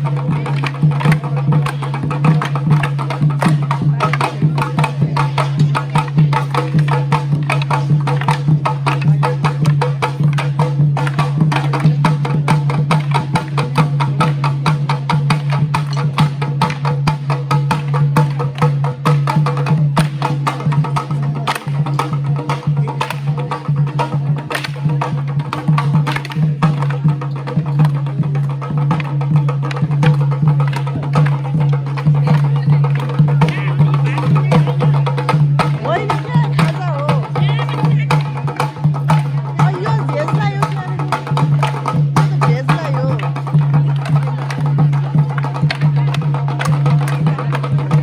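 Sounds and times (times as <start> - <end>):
drums beating fast rhythm: 0.0 - 48.0.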